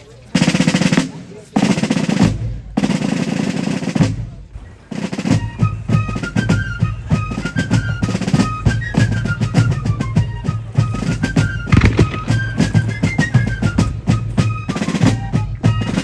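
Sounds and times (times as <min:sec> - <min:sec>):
snare and bass drum beats: 0:00.3 - 0:16.0.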